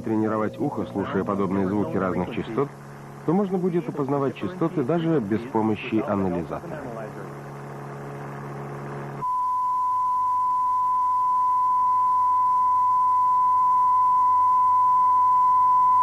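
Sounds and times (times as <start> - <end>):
steady pure test tone: 0.0 - 16.0.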